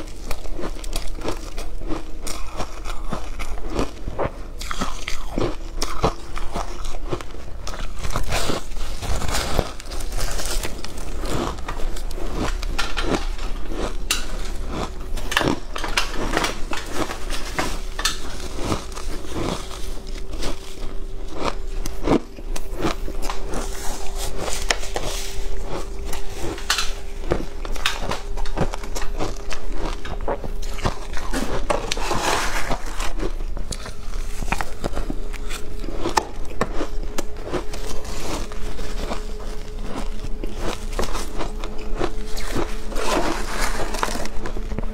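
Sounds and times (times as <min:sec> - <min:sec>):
ice being chewed crunching: 0:00.0 - 0:44.9.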